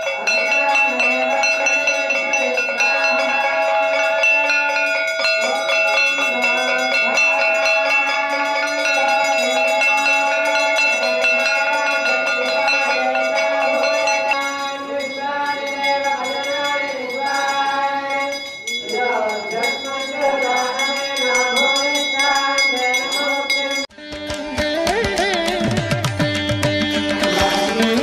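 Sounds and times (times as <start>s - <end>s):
bells ringing rapidly: 0.0s - 28.0s.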